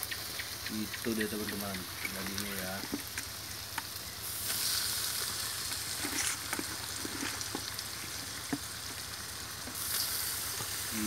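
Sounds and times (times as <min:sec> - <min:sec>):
crackles and pops: 0:00.0 - 0:11.0
meat sizzling in oil: 0:00.0 - 0:11.0.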